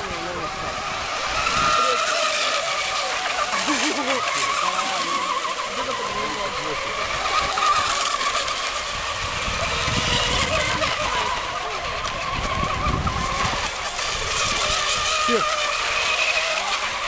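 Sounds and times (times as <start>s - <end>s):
racing boat engines whining: 0.0s - 17.0s.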